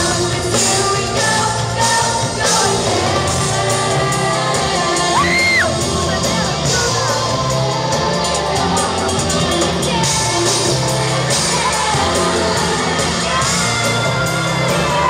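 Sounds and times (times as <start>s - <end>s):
live pop-rock band playing: 0.0s - 15.0s
woman singing: 0.0s - 15.0s.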